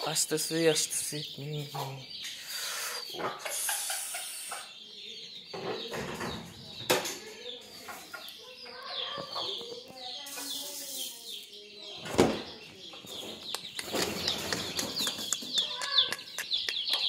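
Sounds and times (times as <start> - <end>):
hens clucking: 0.0 - 10.9, 12.6 - 17.0.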